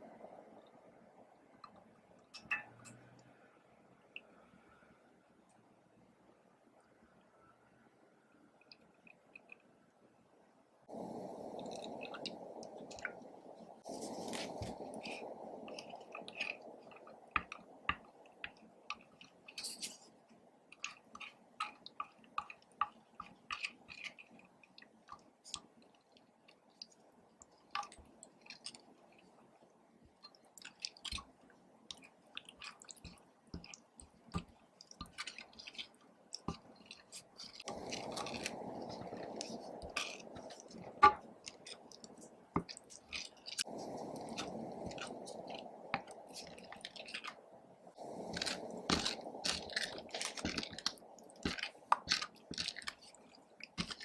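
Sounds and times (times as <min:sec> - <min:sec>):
soft hiss: 0:00.0 - 0:54.0.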